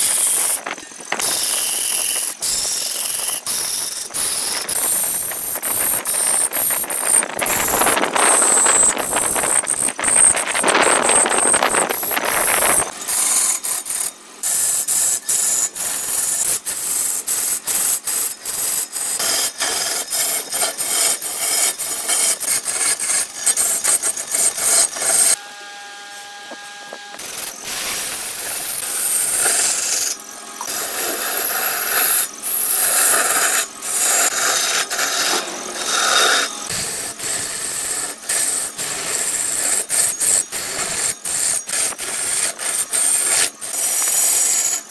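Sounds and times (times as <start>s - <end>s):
lathe motor whine: 0.0s - 44.9s
lathe tool scraping wood: 0.0s - 44.9s.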